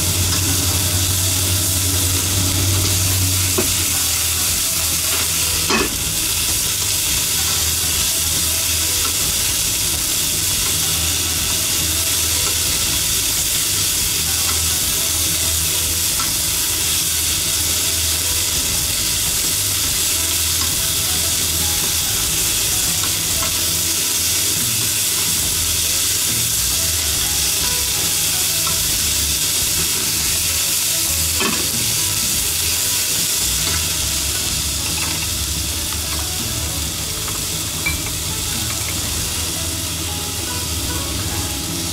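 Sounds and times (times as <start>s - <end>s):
chopsticks stirring in pan: 0.0s - 41.9s
peppers sizzling in oil: 0.0s - 41.9s.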